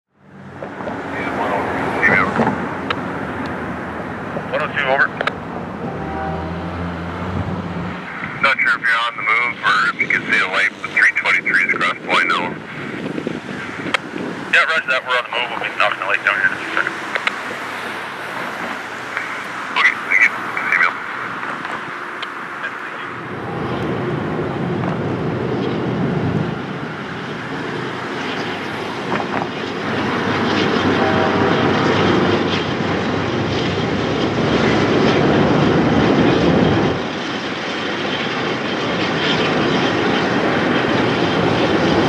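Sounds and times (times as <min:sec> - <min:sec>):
diesel locomotive engines: 0:00.2 - 0:42.0.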